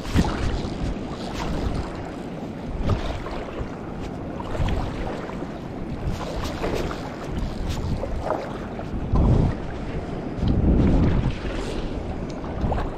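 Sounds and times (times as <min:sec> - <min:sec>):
shallow water sloshing and lapping: 0:00.0 - 0:12.9
water splashing: 0:00.0 - 0:12.9
wind rumble on microphone: 0:00.0 - 0:12.9.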